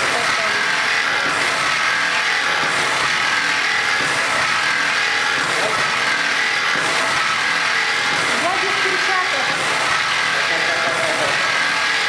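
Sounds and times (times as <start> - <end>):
slicing machine running: 0.0 - 12.0.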